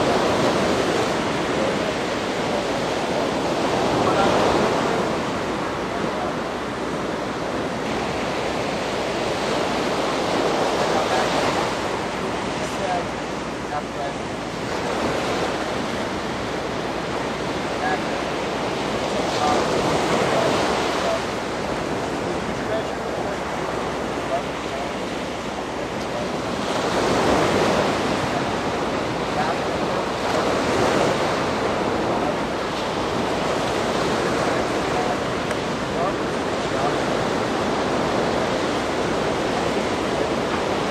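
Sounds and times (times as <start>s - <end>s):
surf washing onto beach: 0.0s - 40.9s
wind on microphone: 0.0s - 40.9s.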